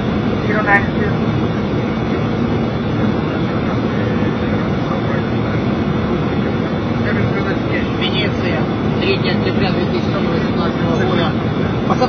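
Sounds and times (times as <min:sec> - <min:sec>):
cockpit airflow and engine rush: 0:00.0 - 0:12.0.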